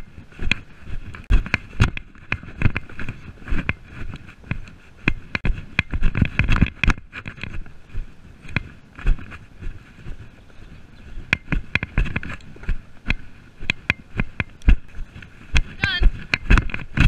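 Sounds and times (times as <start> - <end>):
hoofbeats on grass: 0.0 - 17.0.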